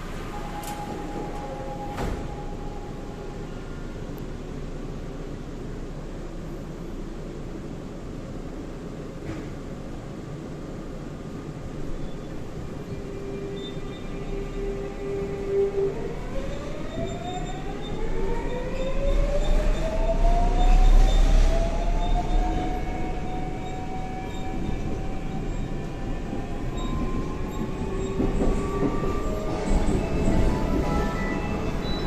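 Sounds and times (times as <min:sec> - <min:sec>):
subway inverter whining: 0:00.0 - 0:32.0
train rumbling on track: 0:00.0 - 0:32.0.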